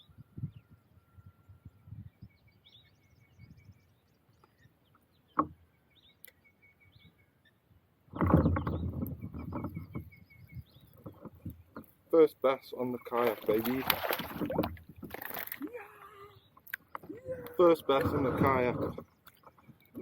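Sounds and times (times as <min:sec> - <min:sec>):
small birds chirping: 0:01.9 - 0:20.0.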